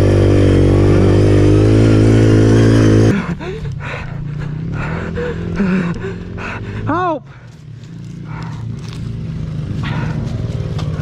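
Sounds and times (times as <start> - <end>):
low engine hum: 0.0 - 11.0
motorbike engine under throttle: 0.0 - 11.0.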